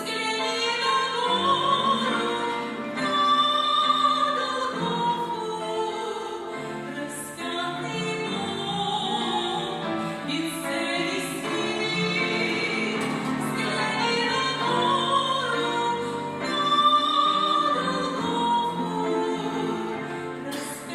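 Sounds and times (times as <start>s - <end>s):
operatic singing: 0.0s - 20.9s.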